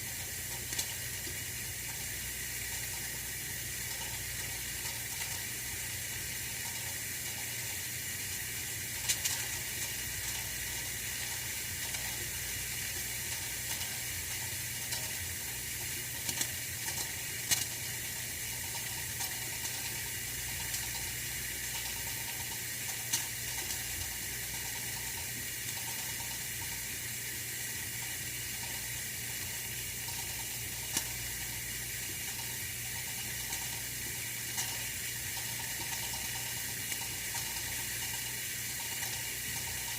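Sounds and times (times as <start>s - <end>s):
heater hissing and humming: 0.0s - 39.9s
heater ticking: 0.0s - 39.9s.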